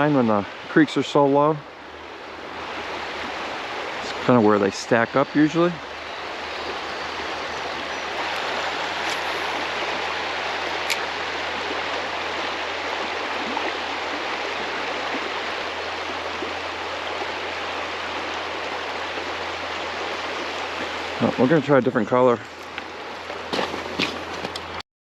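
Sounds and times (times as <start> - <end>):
creek water flowing: 0.0 - 24.8.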